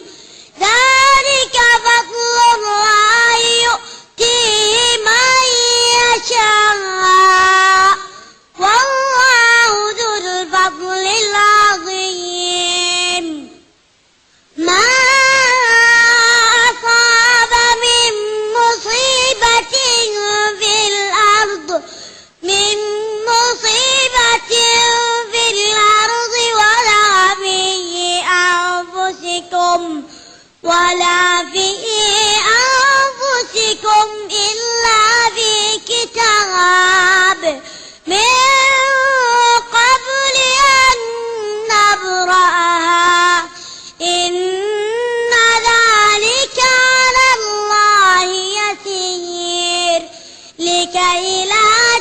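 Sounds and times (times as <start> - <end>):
child chanting melodically: 0.0 - 13.7, 14.5 - 52.0.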